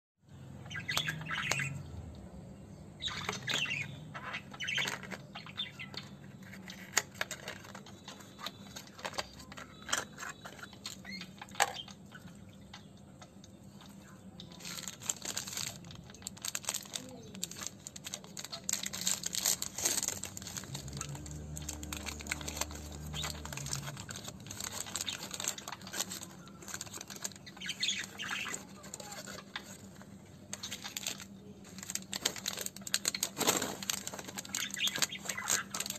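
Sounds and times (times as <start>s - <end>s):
plastic wrapper crinkling: 3.3s - 12.3s, 14.0s - 35.9s.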